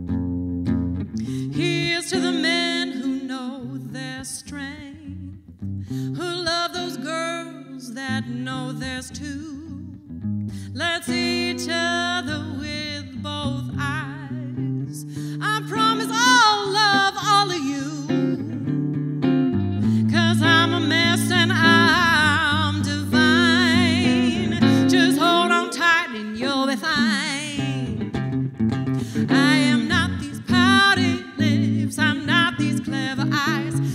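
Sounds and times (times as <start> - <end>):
woman singing with vibrato: 1.2 - 5.4, 6.0 - 18.7, 19.8 - 28.2, 29.0 - 33.9.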